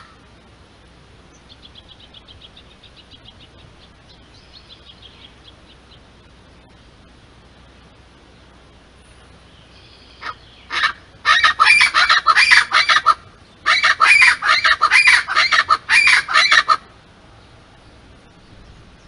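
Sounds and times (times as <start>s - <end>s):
birds calling harshly: 0.0s - 7.1s, 8.4s - 19.0s.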